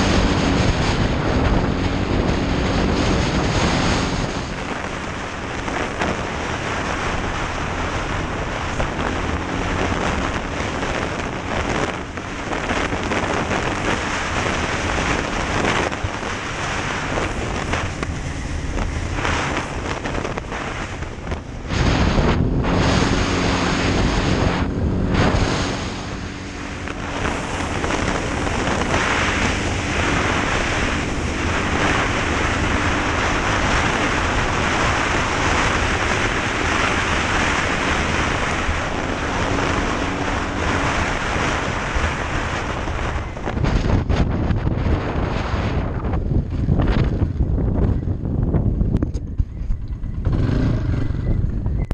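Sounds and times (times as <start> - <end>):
off-road engine running hard: 0.0 - 51.9
wind rush on microphone: 0.0 - 51.9.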